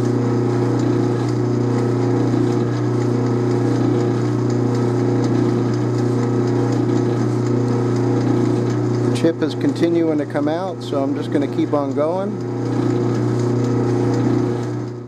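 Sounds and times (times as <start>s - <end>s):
metal lathe motor hum: 0.0s - 15.0s.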